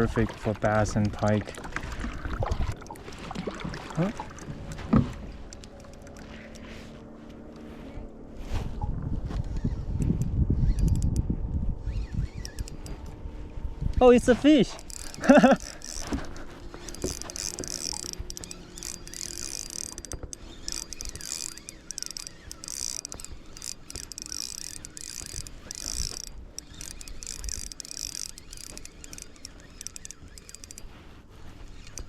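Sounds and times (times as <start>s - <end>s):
fishing reel cranking: 0.0s - 6.9s, 9.4s - 32.0s.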